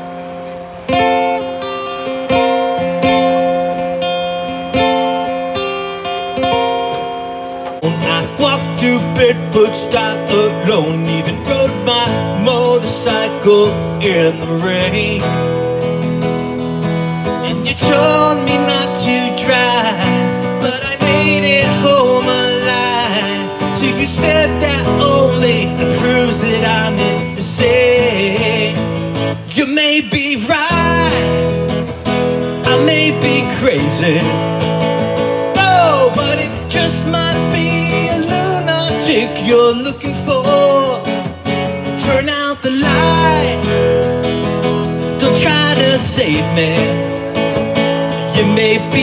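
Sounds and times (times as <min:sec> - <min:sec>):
strummed acoustic guitar music: 0:00.0 - 0:49.0.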